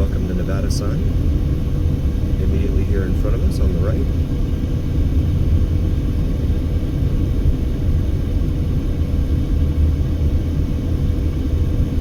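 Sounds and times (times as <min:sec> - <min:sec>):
car road and engine rumble: 0:00.0 - 0:12.0
faint steady hum: 0:00.0 - 0:12.0.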